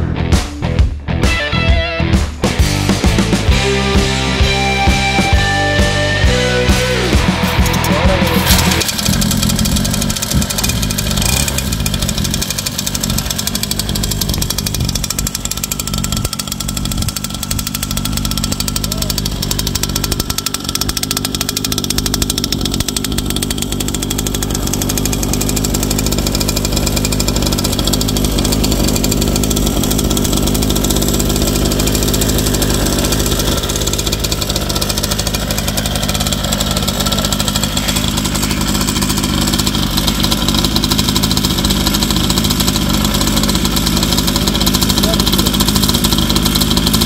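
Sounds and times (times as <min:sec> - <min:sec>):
dirt bike engine idling: 0:02.4 - 0:47.0.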